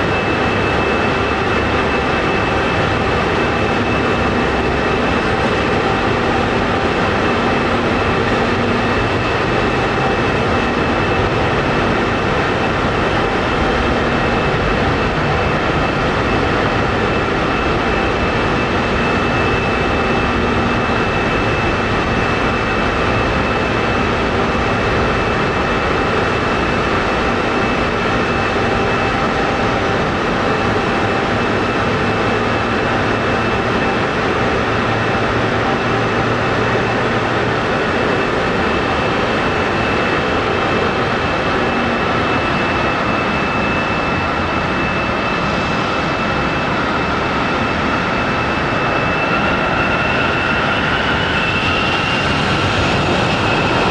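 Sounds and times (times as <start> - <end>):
jet engines rushing and whining: 0.0 - 53.9.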